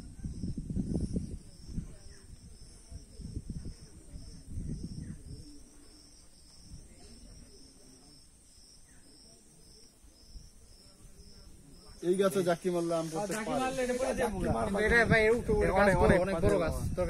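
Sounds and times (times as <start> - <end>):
insects chirping: 0.0 - 16.3.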